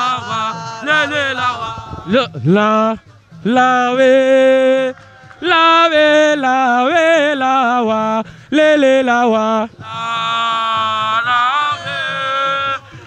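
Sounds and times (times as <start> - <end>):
faint beat: 0.0 - 13.0
person singing ornamented phrases: 0.0 - 13.0.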